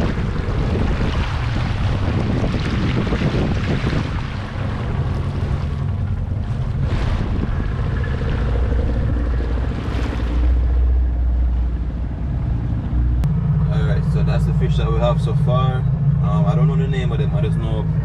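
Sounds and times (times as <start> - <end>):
boat motor running: 0.0 - 18.0
water rushing along hull: 0.0 - 18.0
wind buffeting microphone: 0.0 - 18.0.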